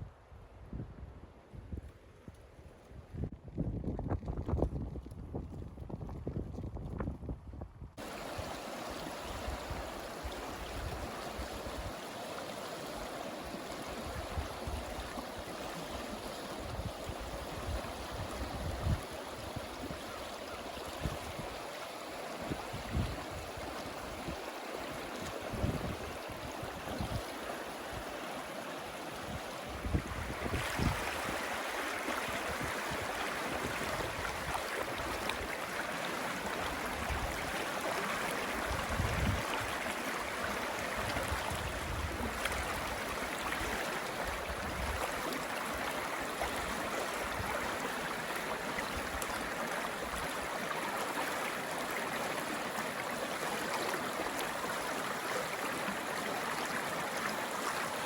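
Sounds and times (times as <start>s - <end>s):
stream water rushing: 8.0s - 58.0s.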